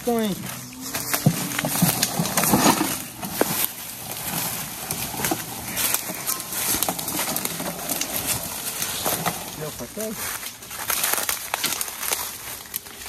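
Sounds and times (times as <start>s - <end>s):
brush snapping and rustling: 0.0s - 13.0s
footsteps through dry leaves: 0.0s - 13.0s.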